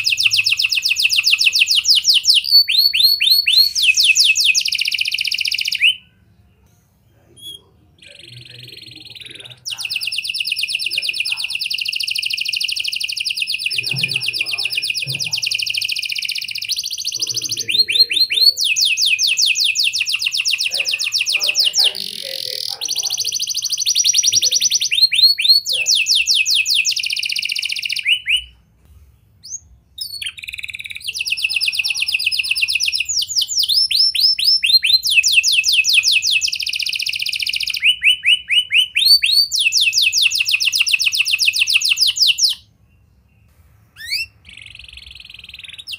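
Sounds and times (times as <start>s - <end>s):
canary singing trills: 0.0s - 28.7s, 29.3s - 45.9s.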